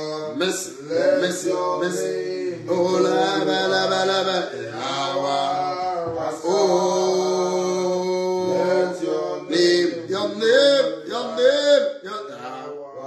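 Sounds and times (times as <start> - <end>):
man singing a chant: 0.0 - 13.0.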